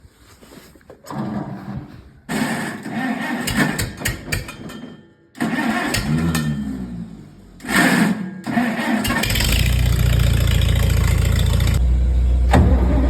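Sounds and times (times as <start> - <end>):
tractor engine cranking and starting: 1.0 - 13.0.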